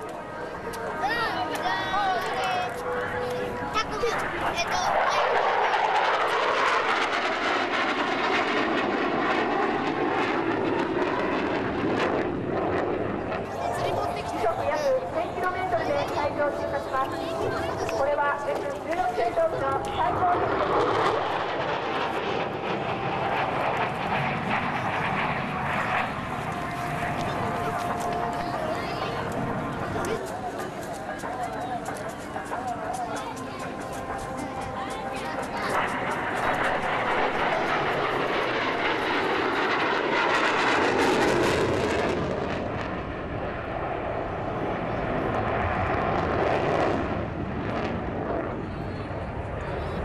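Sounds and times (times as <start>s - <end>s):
jet engine roar: 0.0s - 50.0s.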